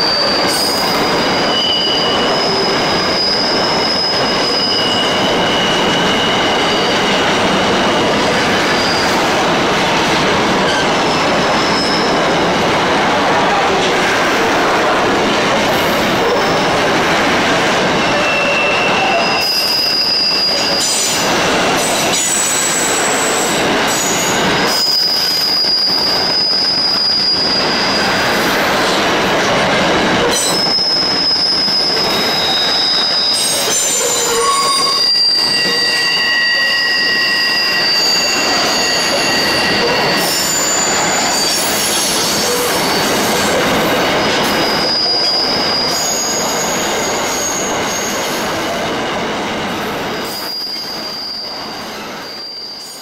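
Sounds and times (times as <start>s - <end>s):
train wheels squealing: 0.0s - 12.6s, 15.7s - 29.2s, 30.2s - 48.8s, 50.1s - 53.0s
wheels rumbling on rail: 0.0s - 52.2s.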